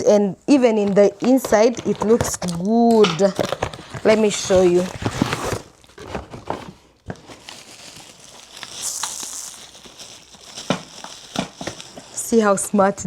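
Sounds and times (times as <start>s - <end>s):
packaging crinkling and rustling: 0.6s - 12.7s.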